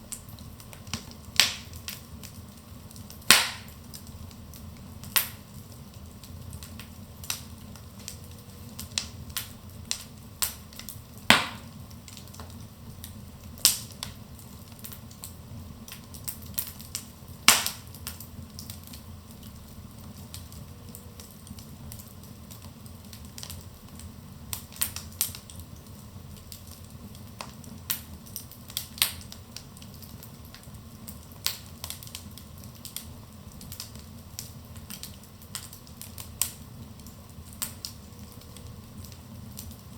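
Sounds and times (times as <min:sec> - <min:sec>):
low rush of flame: 0:00.0 - 0:39.9
wood fire crackling and popping: 0:00.0 - 0:39.9.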